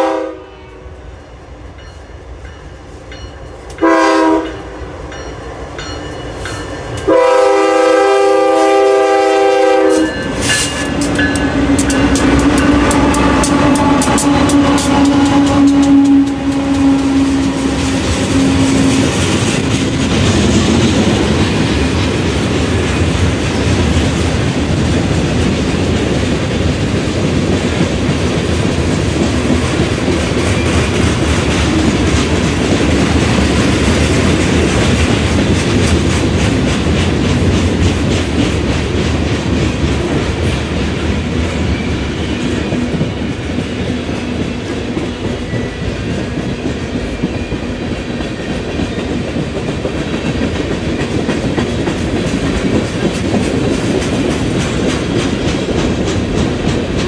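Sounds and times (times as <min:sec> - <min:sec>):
diesel locomotive hum: 0:00.0 - 0:57.0
freight cars rumbling on rails: 0:05.0 - 0:57.0
clickety-clack over rail joints: 0:09.9 - 0:57.0.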